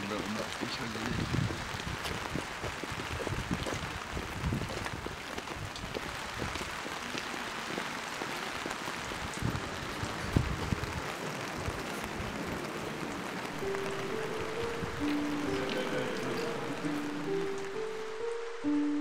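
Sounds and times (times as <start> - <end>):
rain on umbrellas and pavement: 0.0 - 19.0.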